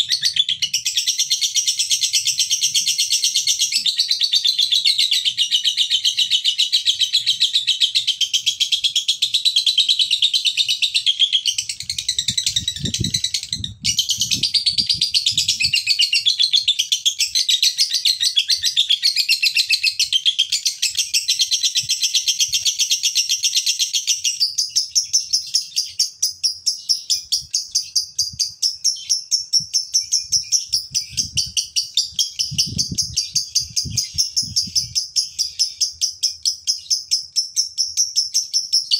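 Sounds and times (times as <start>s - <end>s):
lovebird high-pitched trilling chatter: 0.0s - 38.9s.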